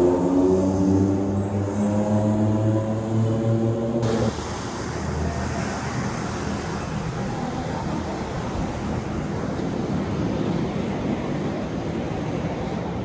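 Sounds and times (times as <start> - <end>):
electric train wheels on rails: 0.0 - 13.0.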